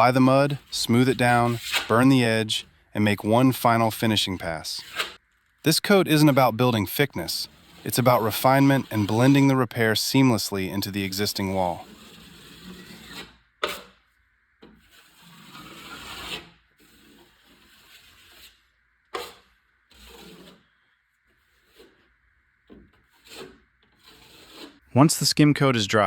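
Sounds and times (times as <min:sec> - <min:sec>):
drywall knife scraping wall: 0:00.0 - 0:05.6, 0:06.2 - 0:09.6, 0:11.1 - 0:24.8.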